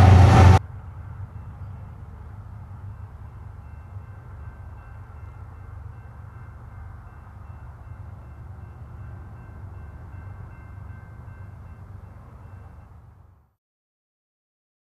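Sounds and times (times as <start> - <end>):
diesel locomotives rumbling: 0.0 - 13.6.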